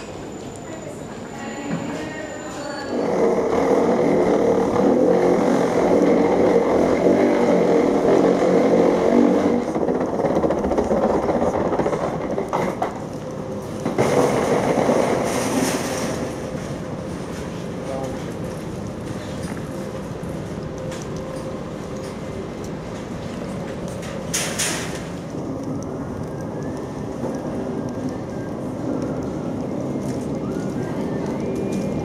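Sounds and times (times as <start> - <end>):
airport machinery drone: 0.0 - 32.0.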